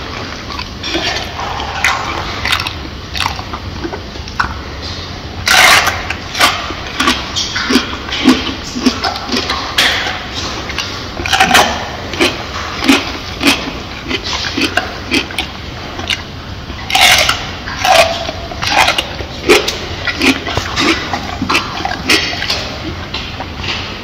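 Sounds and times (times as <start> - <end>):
gorilla chewing: 0.0 - 24.0.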